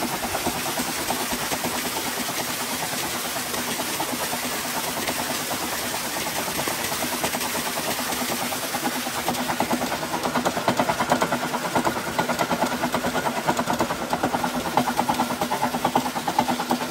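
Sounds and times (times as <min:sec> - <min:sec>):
motor hum: 0:00.0 - 0:16.9
water gushing from pump: 0:00.0 - 0:16.9.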